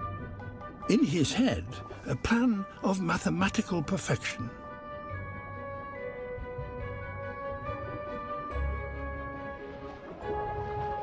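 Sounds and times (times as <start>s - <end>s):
soft orchestral music: 0.0s - 11.0s.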